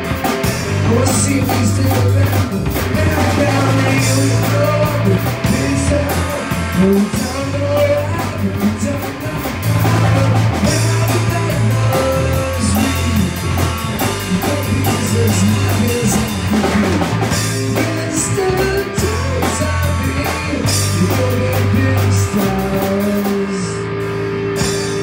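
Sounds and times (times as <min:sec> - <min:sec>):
bass guitar: 0:00.0 - 0:25.0
drum kit: 0:00.0 - 0:25.0
electric guitar: 0:00.0 - 0:25.0
person singing: 0:00.7 - 0:24.0.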